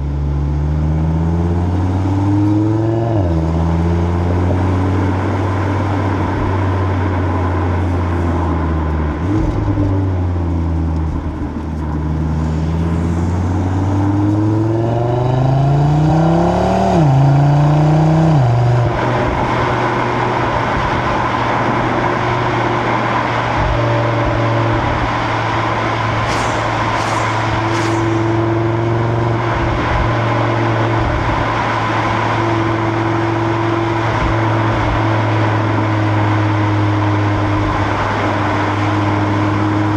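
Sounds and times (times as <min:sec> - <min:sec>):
car exhaust at speed: 0:00.0 - 0:39.9
road and wind noise: 0:00.0 - 0:39.9.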